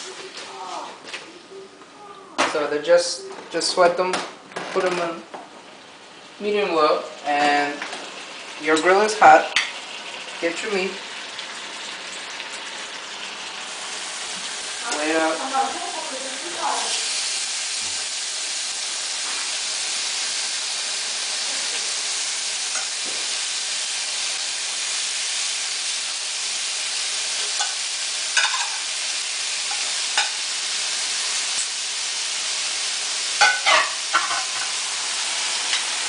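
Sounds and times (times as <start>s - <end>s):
steaks sizzling in a pan: 5.6s - 36.0s.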